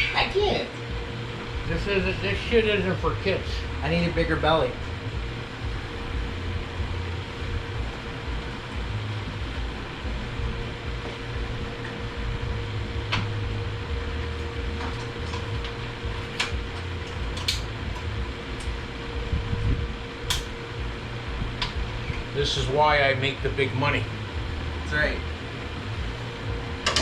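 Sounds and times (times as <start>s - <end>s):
faint steady whine: 0.0s - 27.0s
mechanical hum: 0.0s - 27.0s.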